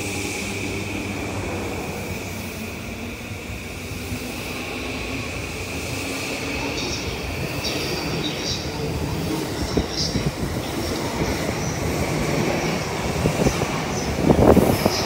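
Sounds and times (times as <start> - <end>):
electric train accelerating: 0.0 - 15.0
steady high whine: 0.0 - 15.0.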